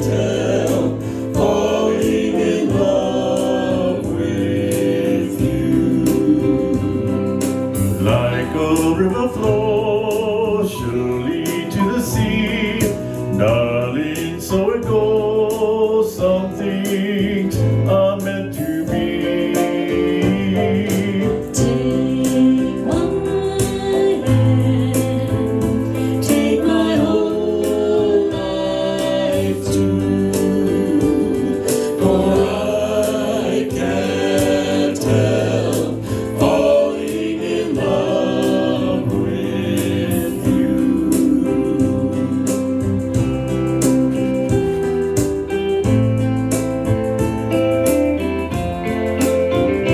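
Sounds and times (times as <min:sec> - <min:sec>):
gospel-style group singing: 0:00.0 - 0:46.3.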